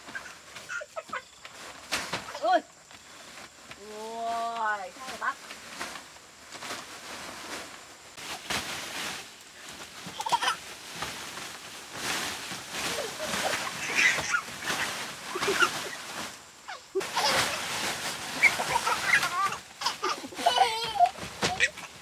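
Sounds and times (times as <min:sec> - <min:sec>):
plastic tarpaulin rustling and flapping: 0:00.0 - 0:22.0.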